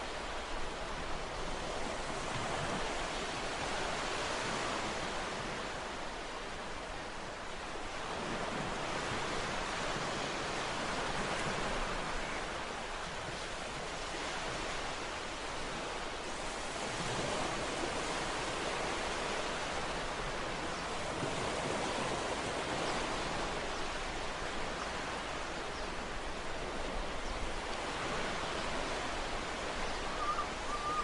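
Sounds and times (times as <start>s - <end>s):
ocean waves on shore: 0.0s - 31.0s.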